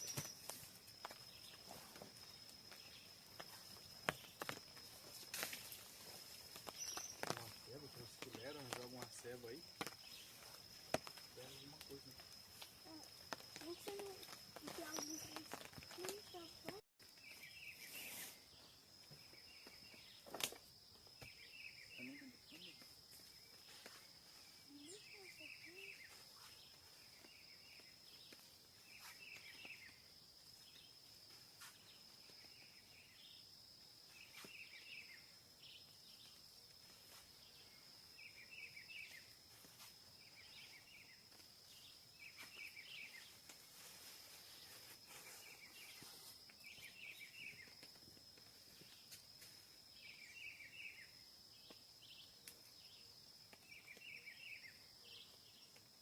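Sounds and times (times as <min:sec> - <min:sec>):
insect chirps: 0:00.0 - 0:56.0.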